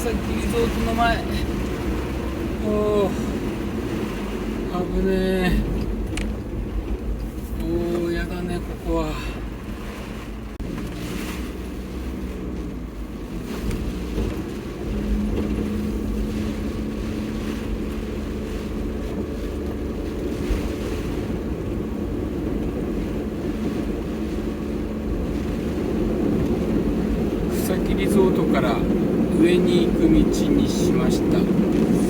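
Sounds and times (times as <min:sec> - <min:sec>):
truck engine droning: 0:00.0 - 0:32.0
water splashing under truck: 0:00.0 - 0:32.0.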